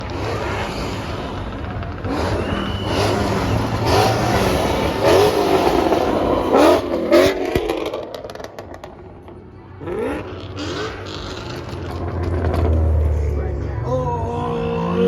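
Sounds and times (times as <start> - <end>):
exhaust cracks: 0.0 - 13.9
car engines revving: 0.0 - 15.0.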